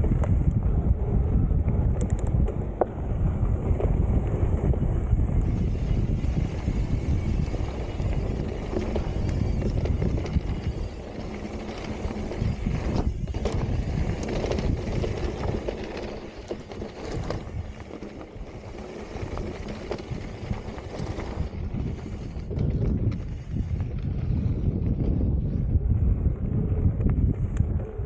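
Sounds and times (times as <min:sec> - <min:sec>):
wind on microphone: 0:00.0 - 0:28.0
bike rattling and knocking: 0:01.7 - 0:25.6.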